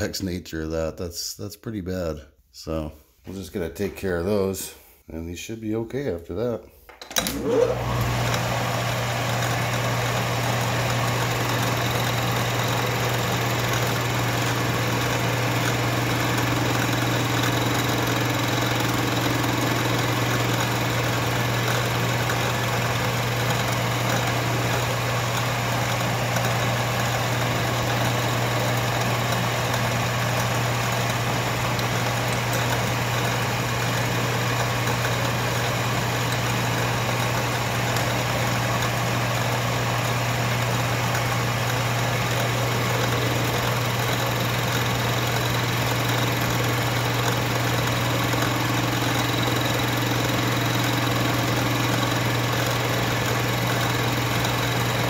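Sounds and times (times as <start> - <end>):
metal lathe humming: 7.2 - 55.0.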